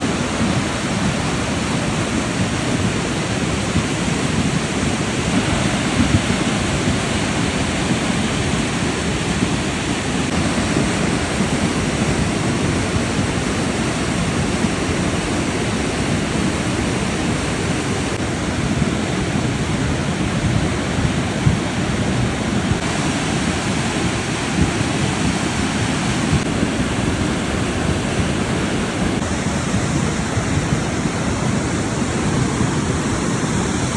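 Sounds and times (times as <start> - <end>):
floodwater rushing in river: 0.0 - 33.9.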